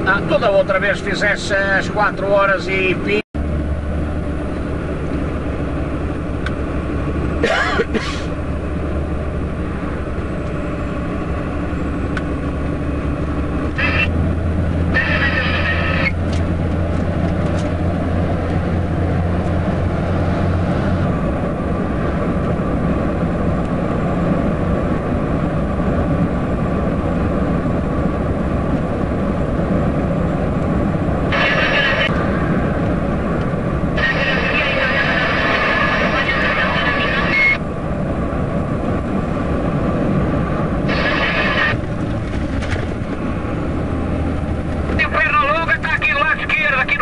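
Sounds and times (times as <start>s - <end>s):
road noise: 0.0s - 47.0s
truck diesel engine running: 0.0s - 47.0s.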